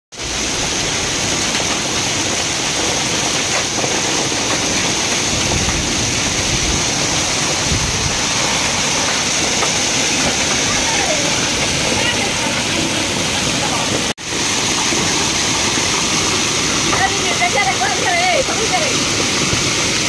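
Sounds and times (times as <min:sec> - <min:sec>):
hail and heavy rain on pavement: 0:00.1 - 0:20.0.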